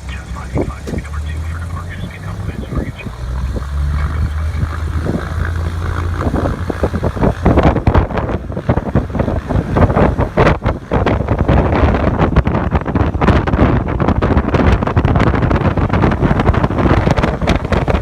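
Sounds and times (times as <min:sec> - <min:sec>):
propeller engine droning: 0:00.0 - 0:18.0
wind buffeting microphone: 0:00.0 - 0:18.0.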